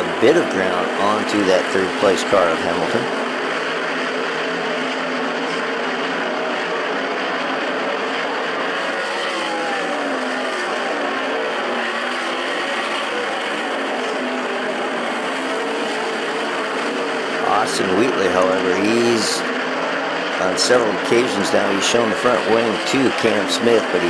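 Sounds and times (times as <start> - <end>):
race car engines racing: 0.0 - 24.0.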